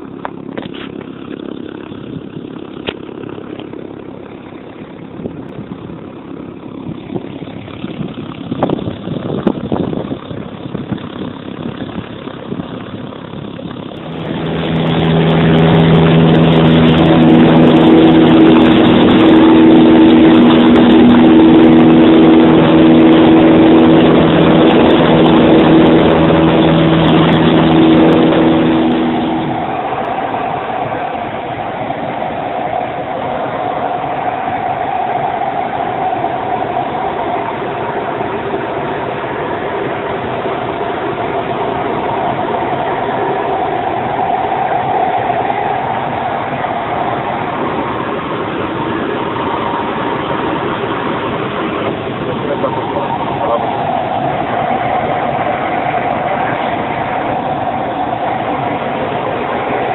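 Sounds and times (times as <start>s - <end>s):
light aircraft engine droning: 0.0s - 59.9s
rough rumbling noise: 0.0s - 59.9s.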